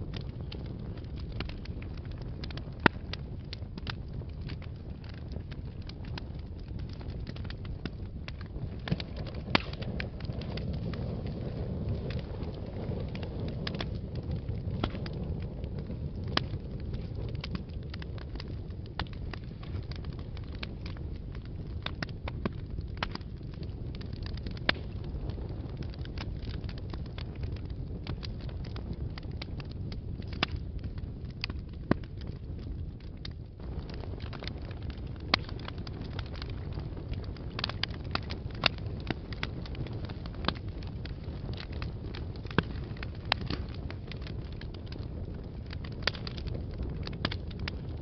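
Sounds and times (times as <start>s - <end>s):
fire crackling and popping: 0.0s - 48.0s
fire flames rumbling: 0.0s - 48.0s.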